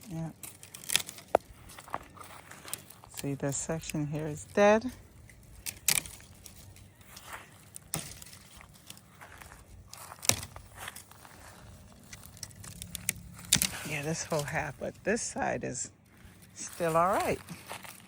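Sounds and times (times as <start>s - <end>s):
footsteps: 0.2s - 15.2s, 16.0s - 18.0s.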